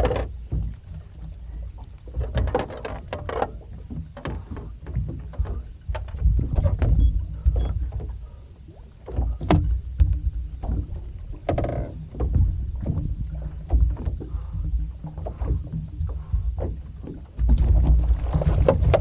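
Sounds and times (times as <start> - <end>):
boat low rumble: 0.0 - 19.0.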